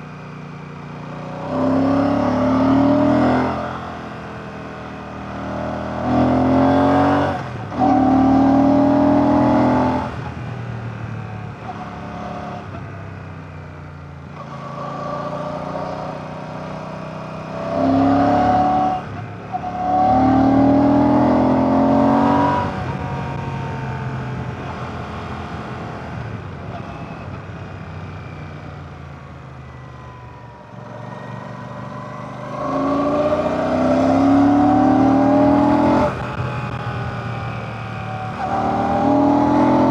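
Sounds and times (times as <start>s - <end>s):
motorcycle engine accelerating: 0.3s - 39.9s.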